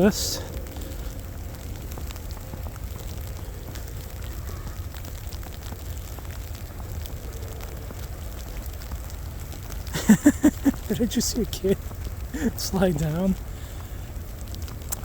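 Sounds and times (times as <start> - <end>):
footsteps in wet snow: 0.0 - 15.0
steady low rumble: 0.0 - 15.0.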